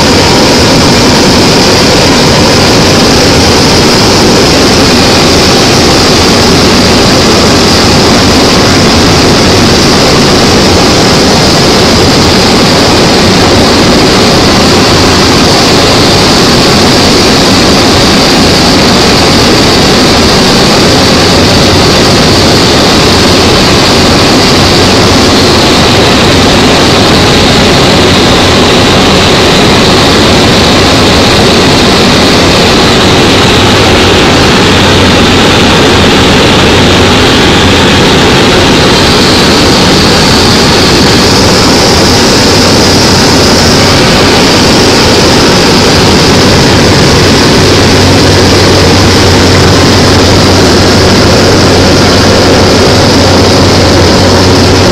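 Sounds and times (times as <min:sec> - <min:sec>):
high engine whine falling in pitch: 0:00.0 - 0:54.9
small plane engine in cockpit: 0:00.0 - 0:54.9.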